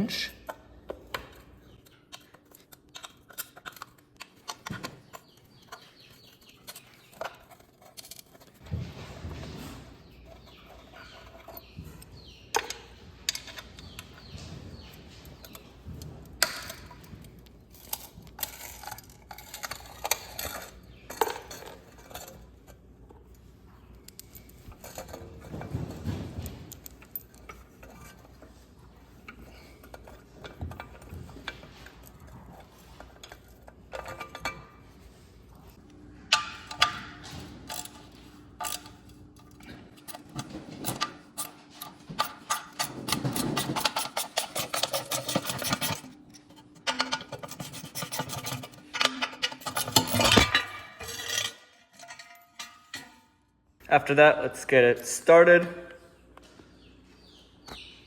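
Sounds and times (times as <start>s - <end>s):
metal tools and bolts clinking: 0.1s - 53.5s.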